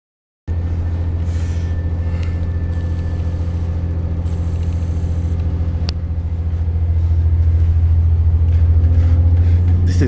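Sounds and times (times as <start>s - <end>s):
train diesel engine humming: 0.5s - 10.0s.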